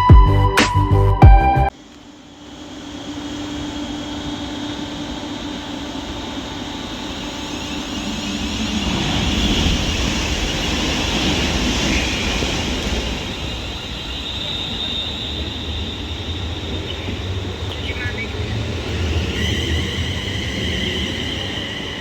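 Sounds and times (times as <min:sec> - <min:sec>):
electric train running: 0:01.6 - 0:22.0
faint high whine: 0:01.6 - 0:22.0.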